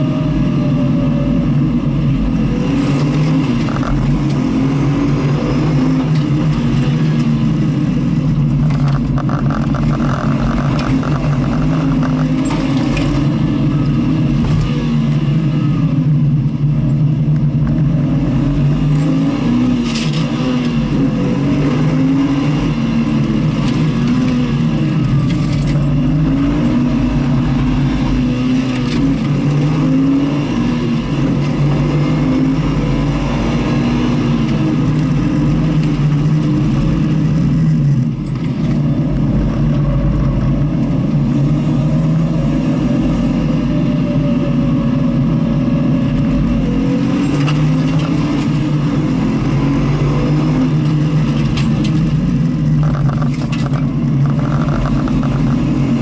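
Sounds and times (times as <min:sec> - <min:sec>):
engine revving: 0:00.0 - 0:56.0
wind and road noise: 0:00.0 - 0:56.0.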